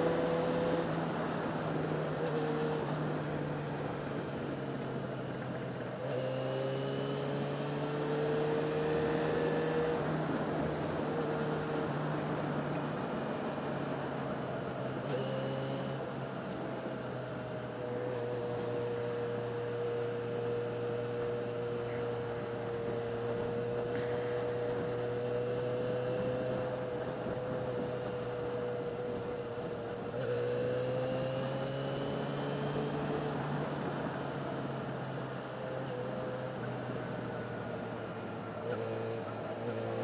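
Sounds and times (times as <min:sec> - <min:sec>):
motorcycle engine cruising: 0:00.0 - 0:40.0
road and wind noise: 0:00.0 - 0:40.0.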